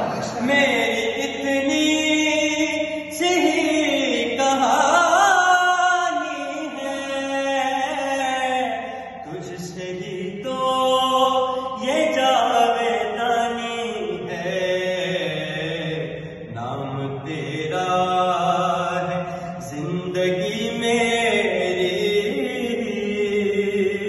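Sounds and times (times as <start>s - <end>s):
man chanting melodically: 0.0s - 24.0s.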